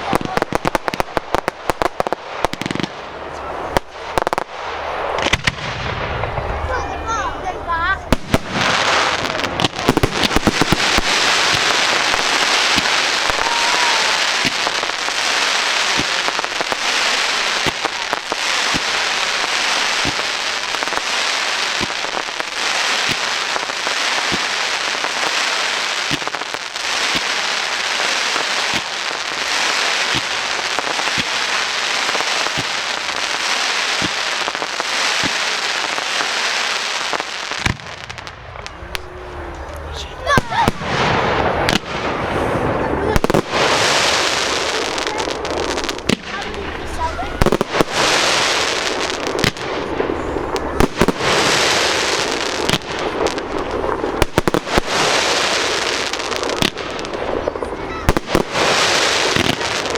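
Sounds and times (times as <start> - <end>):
fireworks pops and bangs: 0.0 - 59.9.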